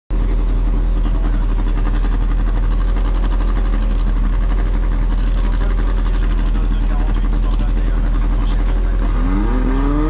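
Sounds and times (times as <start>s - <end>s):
race car engine idling: 0.1s - 10.0s.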